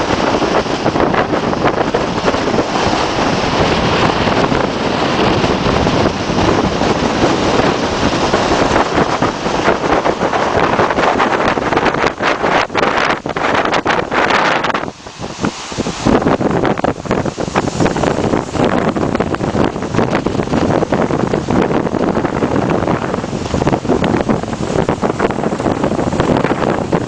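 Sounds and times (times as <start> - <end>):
surf breaking on rocks: 0.0 - 27.0
wind blowing across microphone: 0.0 - 27.0.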